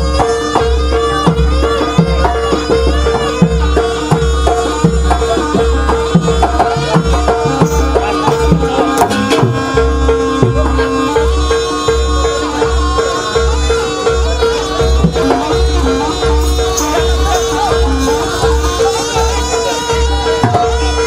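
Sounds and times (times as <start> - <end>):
hand drums beating: 0.0 - 21.0
reedy wind melody: 0.0 - 21.0.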